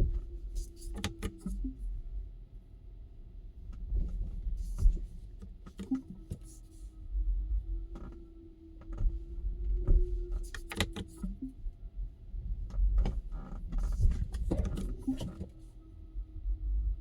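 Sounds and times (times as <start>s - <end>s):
car road rumble and hum: 0.0s - 17.0s.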